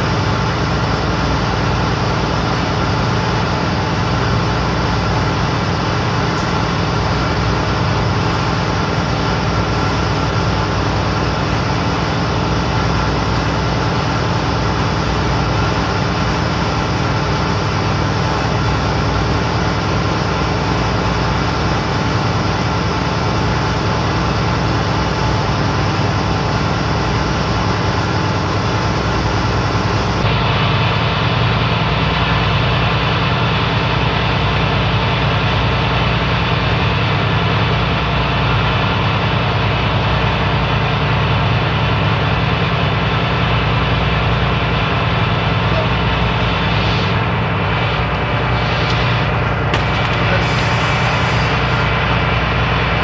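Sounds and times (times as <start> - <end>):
ship engines droning: 0.0 - 53.0.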